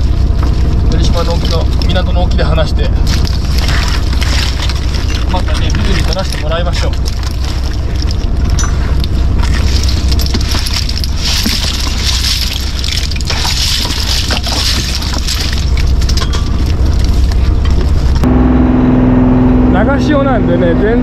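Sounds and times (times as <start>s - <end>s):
water splashing wash: 0.0s - 18.2s
boat engine rumbling: 0.0s - 21.0s.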